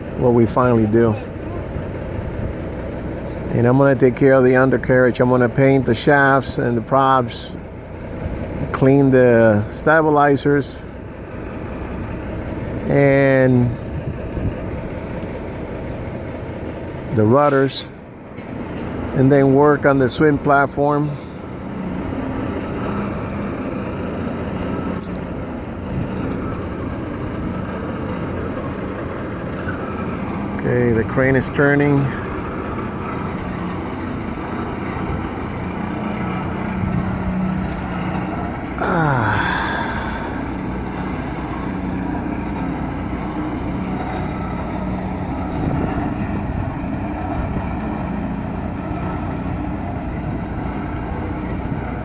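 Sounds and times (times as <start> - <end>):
crane engine humming: 0.0 - 52.0.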